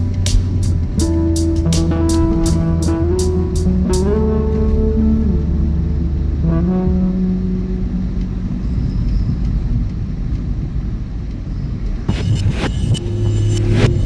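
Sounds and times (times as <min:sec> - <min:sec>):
sustained tones: 0:00.0 - 0:10.7, 0:11.6 - 0:14.0
car engine and road rumble: 0:00.0 - 0:14.0.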